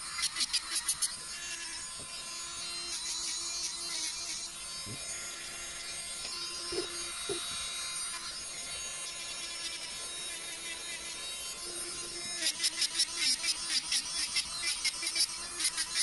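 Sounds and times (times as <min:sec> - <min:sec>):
electric nail drill whine: 0:00.0 - 0:16.0.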